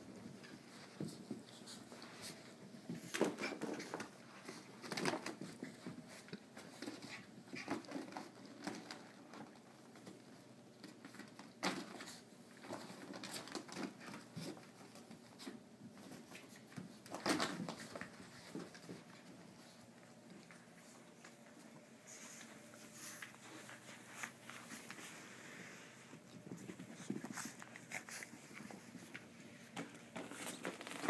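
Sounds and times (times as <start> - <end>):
dogs scuffling on carpet: 0.0 - 31.0.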